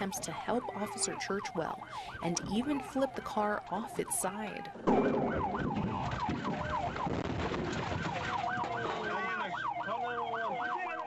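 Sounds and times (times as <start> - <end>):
second siren: 0.0 - 11.0
siren yelping: 0.0 - 11.0.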